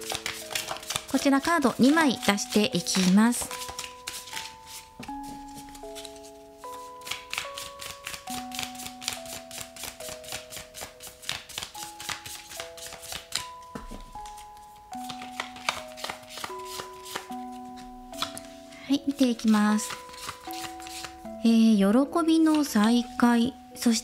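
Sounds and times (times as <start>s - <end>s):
cards being shuffled: 0.0s - 21.3s, 22.4s - 23.2s
soft background music: 0.0s - 24.0s.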